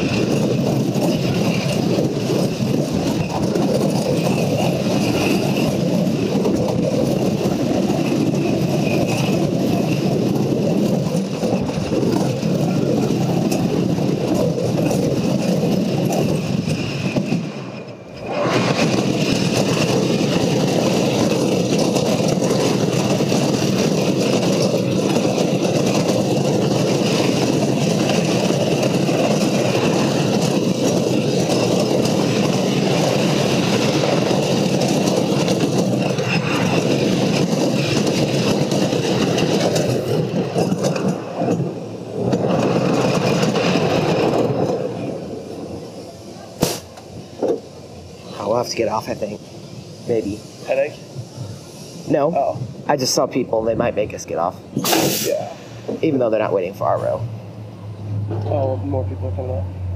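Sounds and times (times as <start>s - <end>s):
roller coaster train rumbling on track: 0.0s - 59.9s.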